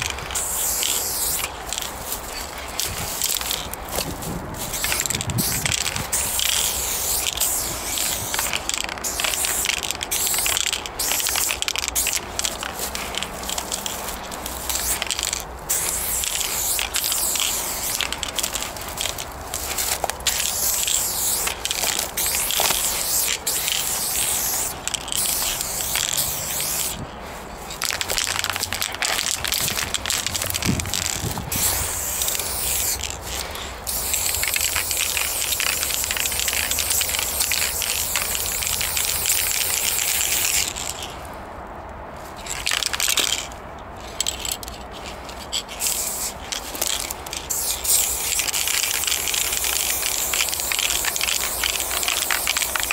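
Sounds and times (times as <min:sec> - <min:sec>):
spray paint can hissing: 0:00.0 - 0:41.1, 0:42.4 - 0:43.5, 0:44.1 - 0:52.9.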